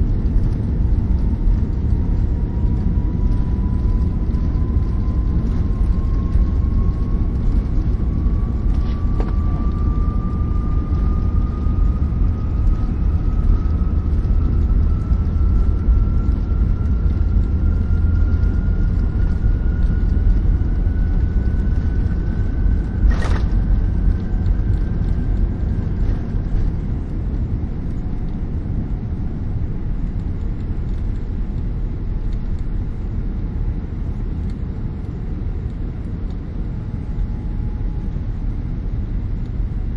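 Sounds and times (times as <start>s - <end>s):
airplane cabin rumble: 0.0s - 39.9s
jet engine whine: 0.0s - 39.9s.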